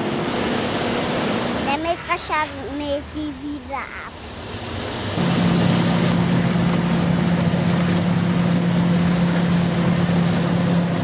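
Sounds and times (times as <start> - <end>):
engine humming: 0.3 - 11.0.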